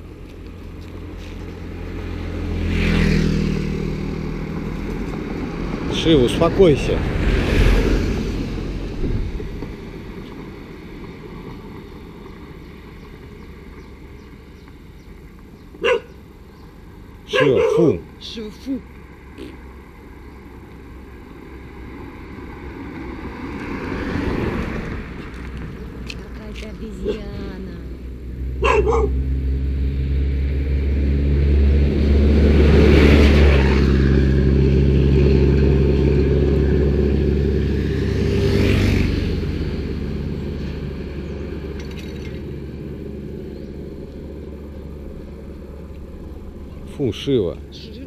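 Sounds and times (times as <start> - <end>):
tyre noise on road: 0.0 - 48.0
vehicle engine humming: 0.0 - 48.0.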